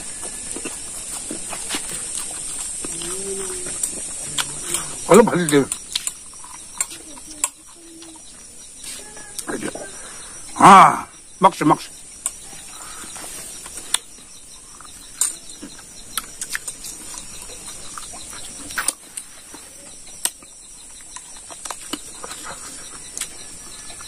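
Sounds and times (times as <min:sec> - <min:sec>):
person chewing wetly: 0:00.0 - 0:10.5, 0:12.2 - 0:24.0
insects droning: 0:00.0 - 0:24.0.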